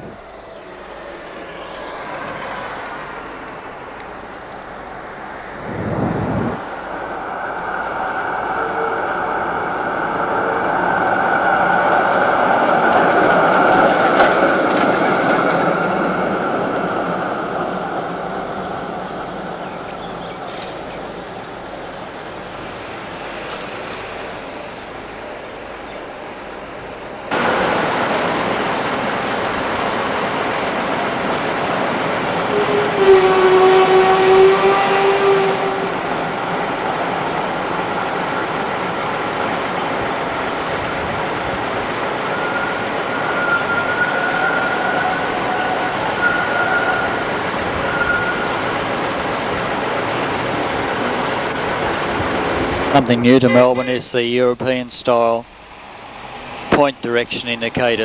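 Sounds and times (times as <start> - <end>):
tram and road traffic rushing: 0.0 - 58.0.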